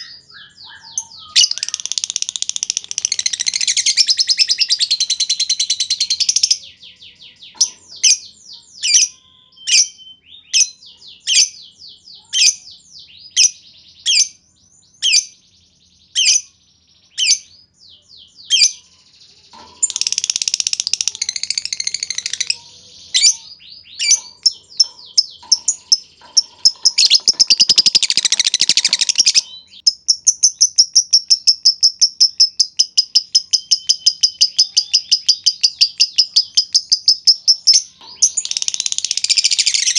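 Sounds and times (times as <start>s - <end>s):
lovebird chattering and trilling: 0.0s - 12.7s, 19.5s - 39.9s.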